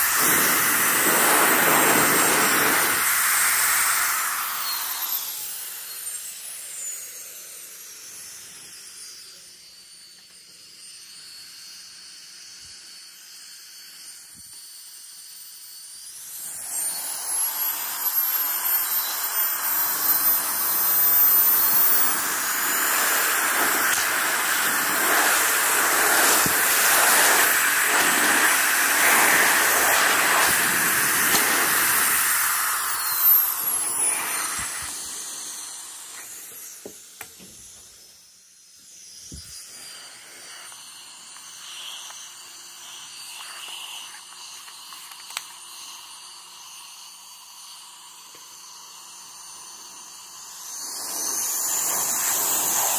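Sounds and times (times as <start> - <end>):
air blower rushing with whine: 0.0 - 52.9.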